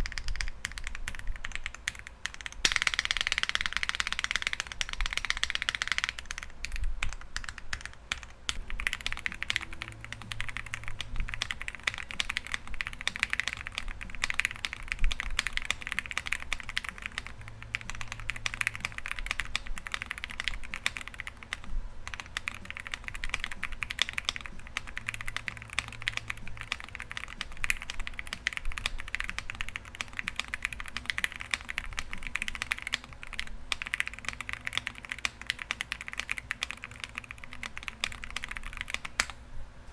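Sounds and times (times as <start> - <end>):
mechanical keyboard typing: 0.0 - 39.4.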